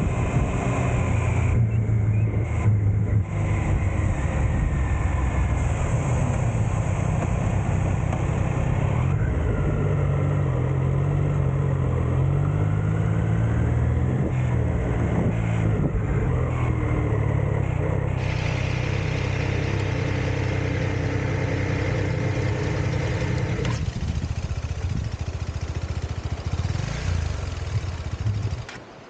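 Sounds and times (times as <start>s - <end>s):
motorcycle engine at low revs: 0.0s - 29.0s.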